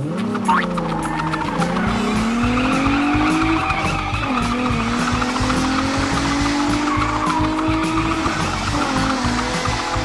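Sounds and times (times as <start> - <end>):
background music with beat: 0.0 - 10.0
vehicle engine revving: 0.0 - 10.0.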